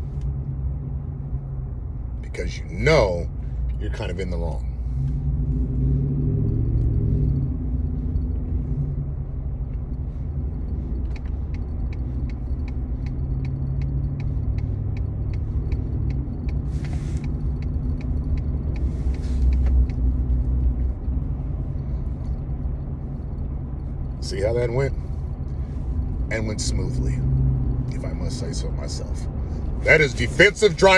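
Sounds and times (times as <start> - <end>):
engine and tyre rumble: 0.0 - 30.9
turn signal ticking: 0.0 - 30.9.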